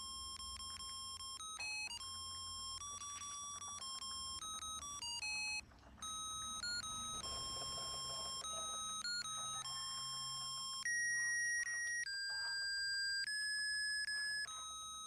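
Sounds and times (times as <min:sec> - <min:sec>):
electronic beeping melody: 0:00.0 - 0:15.0.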